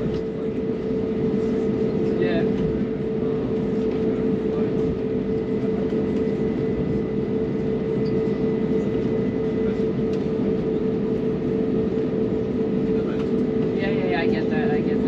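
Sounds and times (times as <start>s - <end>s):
aircraft cabin hum and rumble: 0.0s - 15.0s.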